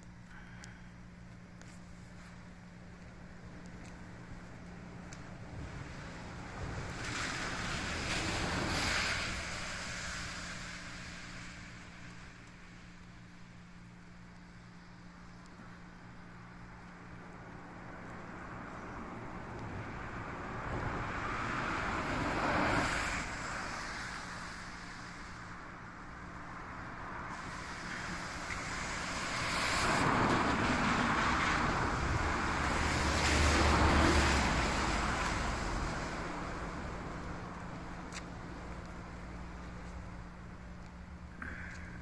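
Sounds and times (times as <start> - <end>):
tyre hiss on wet road: 0.2 - 14.2, 17.4 - 42.0.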